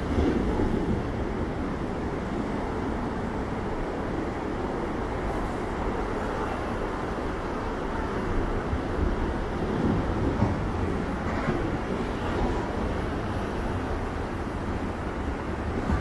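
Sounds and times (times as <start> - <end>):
heavy surf roaring: 0.0 - 16.0.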